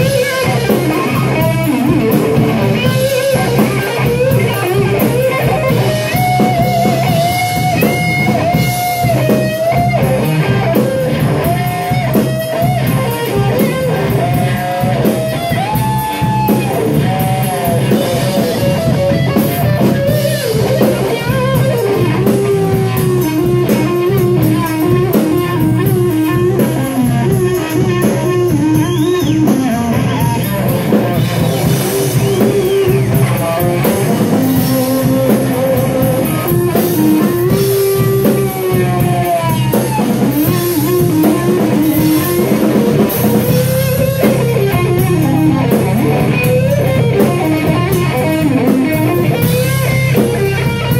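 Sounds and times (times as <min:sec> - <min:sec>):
bass and drums: 0:00.0 - 0:50.9
electric guitar lead: 0:00.0 - 0:50.9.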